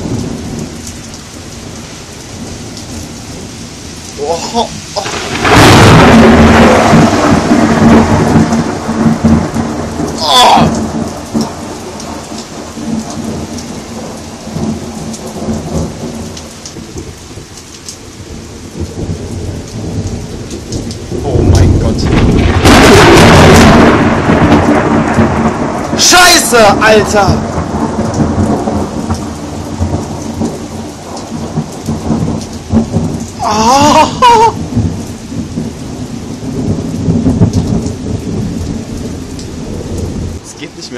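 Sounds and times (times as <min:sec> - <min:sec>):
heavy rain: 0:00.0 - 0:40.9
thunder rumbling and cracking: 0:00.0 - 0:40.9.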